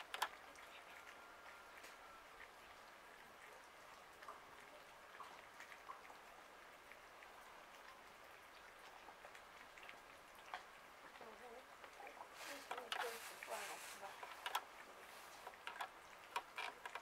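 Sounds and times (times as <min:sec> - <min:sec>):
low hiss: 0:00.0 - 0:17.0.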